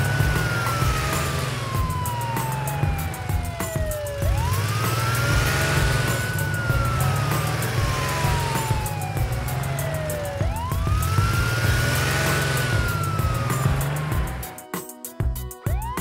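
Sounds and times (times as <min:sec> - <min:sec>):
police siren wailing: 0:00.0 - 0:14.6, 0:15.7 - 0:16.0.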